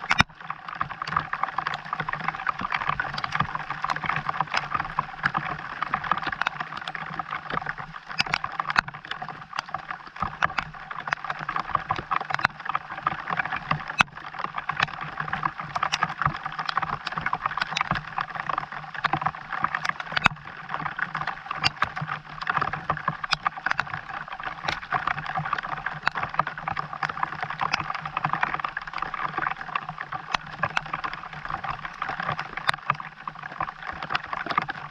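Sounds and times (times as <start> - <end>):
sharp ticks of raindrops: 0.0 - 34.9.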